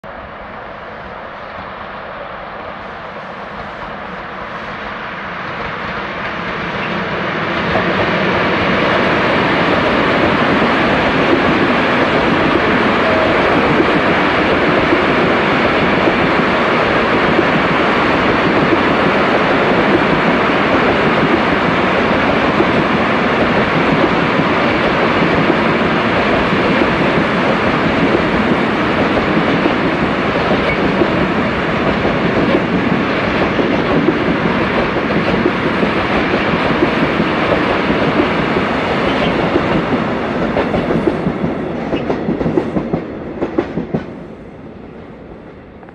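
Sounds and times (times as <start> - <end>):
train wheels clattering on rails: 5.5 - 44.4.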